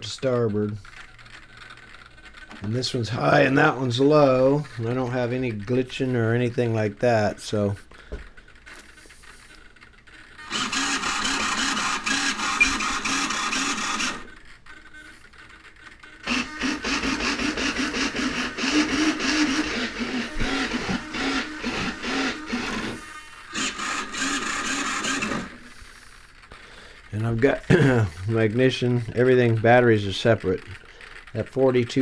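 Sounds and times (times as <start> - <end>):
servos whirring: 0.0 - 32.0.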